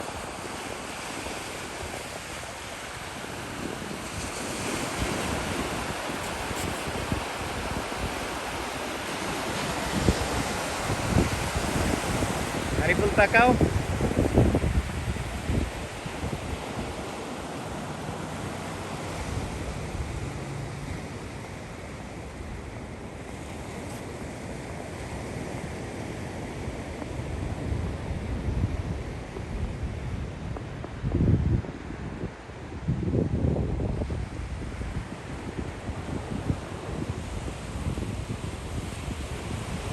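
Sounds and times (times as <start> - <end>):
wind buffeting microphone: 0.0 - 17.8, 18.4 - 39.9
sea waves rushing: 0.0 - 39.9.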